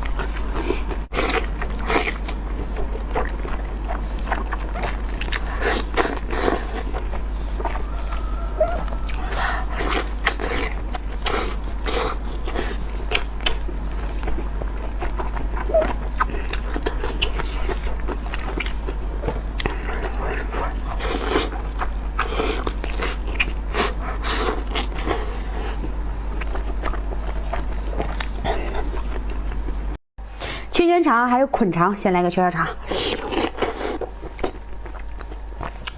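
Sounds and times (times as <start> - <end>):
close chewing of food: 0.0 - 30.0, 32.7 - 35.9
steady low hum: 0.0 - 35.9.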